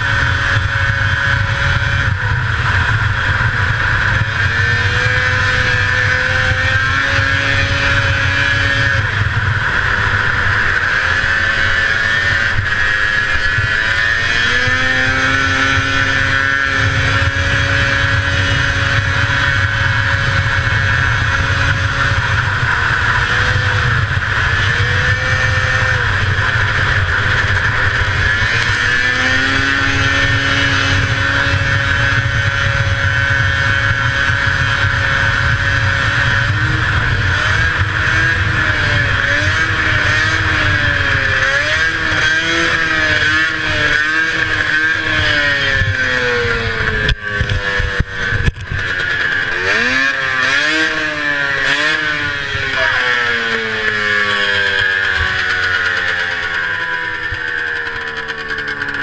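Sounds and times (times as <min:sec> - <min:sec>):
snowmobile two-stroke engine revving: 0:00.0 - 0:59.0.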